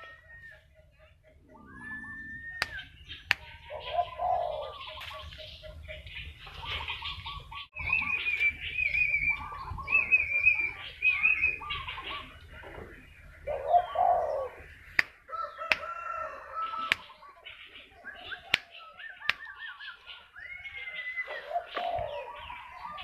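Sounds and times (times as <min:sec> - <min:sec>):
bird calling wavering notes: 0:00.0 - 0:15.0, 0:16.5 - 0:23.0.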